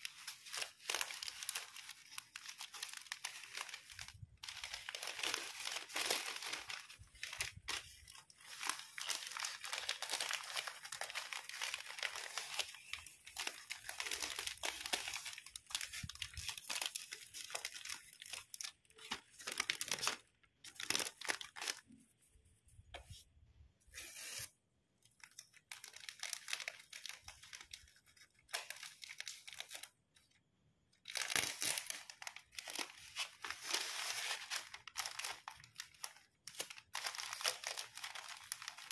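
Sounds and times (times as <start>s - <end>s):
plastic wrapping crinkling: 0.0s - 22.0s, 25.2s - 30.2s, 31.0s - 38.9s.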